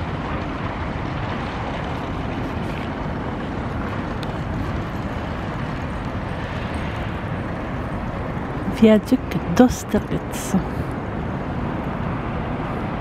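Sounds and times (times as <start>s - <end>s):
city ambience rumble and hiss: 0.0s - 13.0s.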